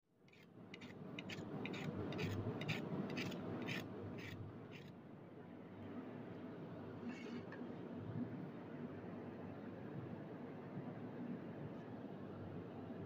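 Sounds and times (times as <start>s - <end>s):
low background noise: 0.1s - 13.0s.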